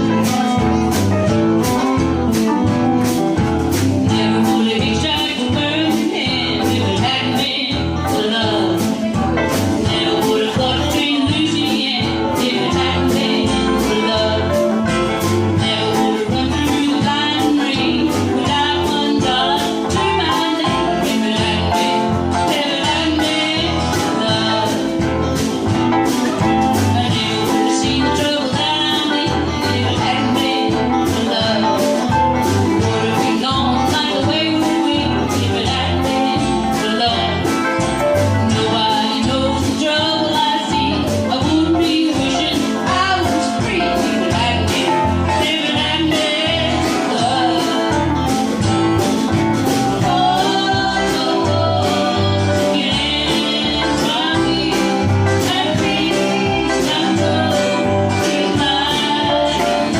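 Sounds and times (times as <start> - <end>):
live band playing country song: 0.0 - 59.9.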